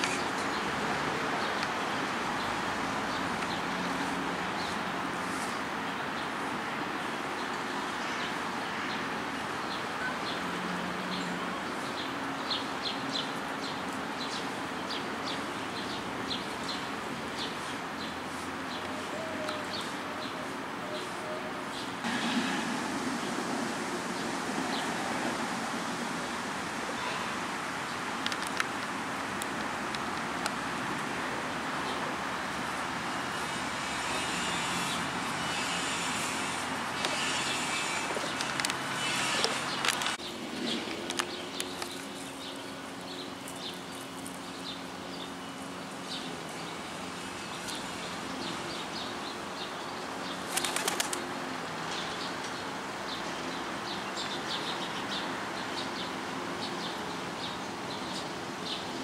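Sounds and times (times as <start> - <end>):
small birds chirping: 0.0 - 22.1, 33.5 - 59.0
distant traffic hiss: 0.0 - 59.0.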